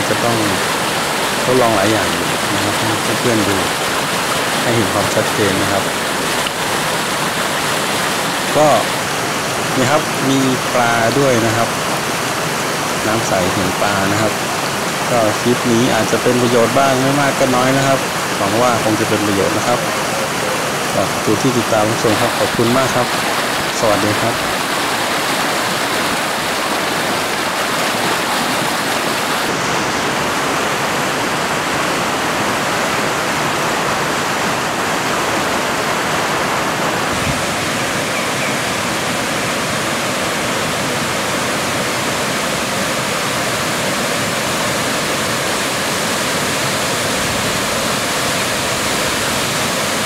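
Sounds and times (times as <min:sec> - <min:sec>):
water falling over rock ledges: 0:00.0 - 0:50.0.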